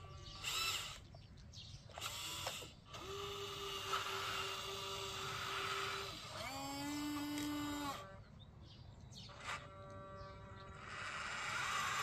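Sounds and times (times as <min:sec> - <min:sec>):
electric motor whine: 0:00.0 - 0:01.1, 0:01.9 - 0:08.4, 0:09.2 - 0:12.0.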